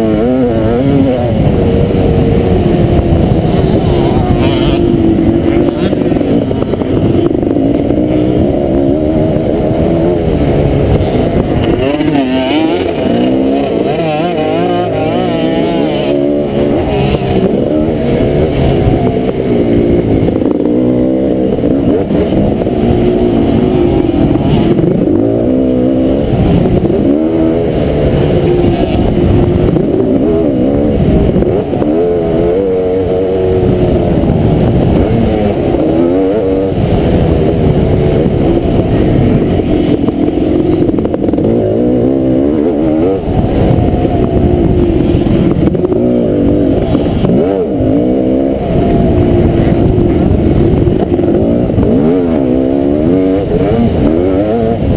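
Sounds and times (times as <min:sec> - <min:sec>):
motocross bike engine racing: 0:00.0 - 0:54.9.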